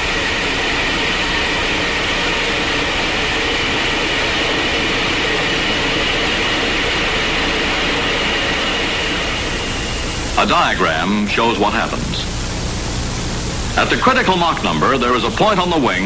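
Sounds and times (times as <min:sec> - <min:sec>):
wind tunnel air rushing: 0:00.0 - 0:13.8
faint high whine: 0:00.0 - 0:16.0.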